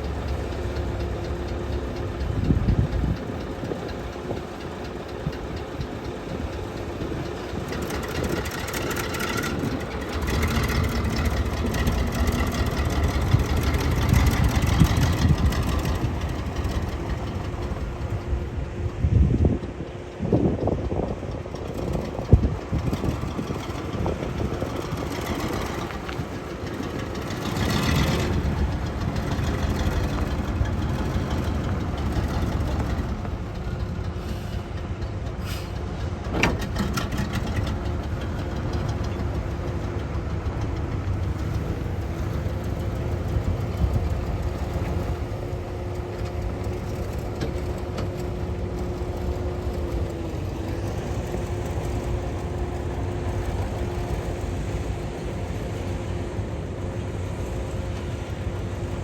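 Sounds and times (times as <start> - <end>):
heavy machinery engine droning: 0.0 - 59.0.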